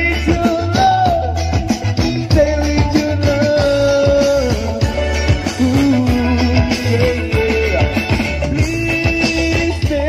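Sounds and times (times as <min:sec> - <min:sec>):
drum beat: 0:00.0 - 0:10.0
heavy bass: 0:00.0 - 0:10.0
street band music: 0:00.0 - 0:10.0.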